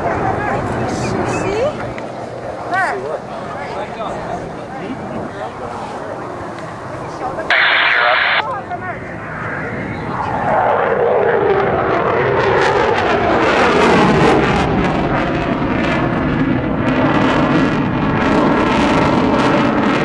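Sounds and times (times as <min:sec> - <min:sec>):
jet passing low overhead: 0:00.0 - 0:20.0.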